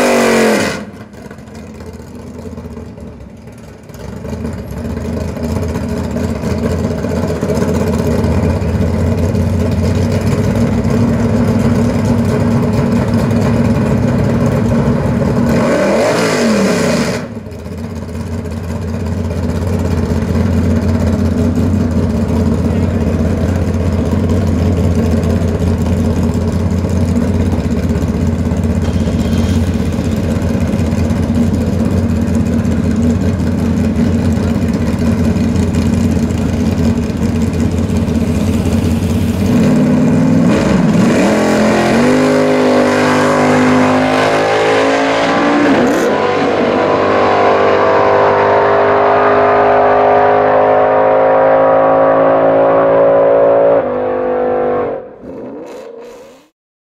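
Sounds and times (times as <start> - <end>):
car engine rumbling and revving: 0.0 - 56.5.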